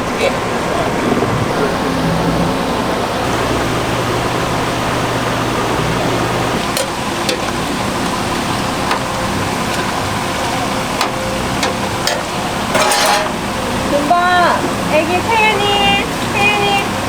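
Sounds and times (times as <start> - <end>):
dough sizzling in hot oil: 3.2 - 17.0.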